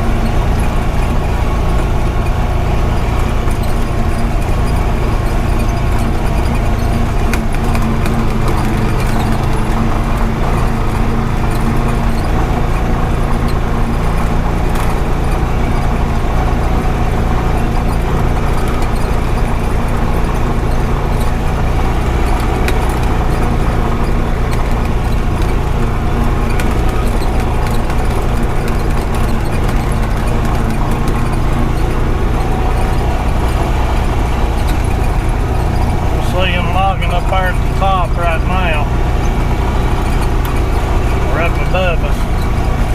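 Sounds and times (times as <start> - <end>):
utility vehicle engine running: 0.0 - 42.9.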